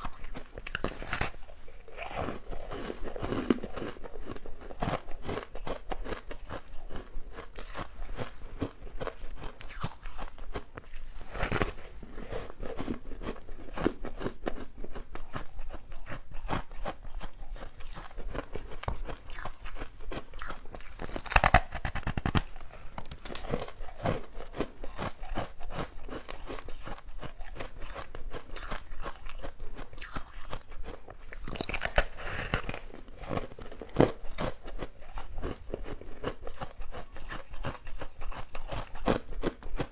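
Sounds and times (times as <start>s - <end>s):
chewing: 0.0s - 39.9s
crunching frozen ice treat: 0.0s - 39.9s.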